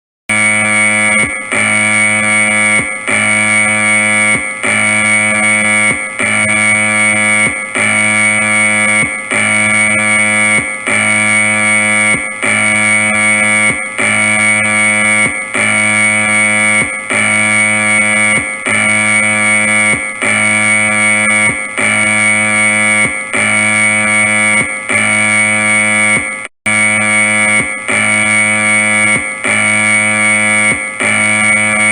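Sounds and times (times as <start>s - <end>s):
harsh electronic alarm tone: 0.3s - 31.9s.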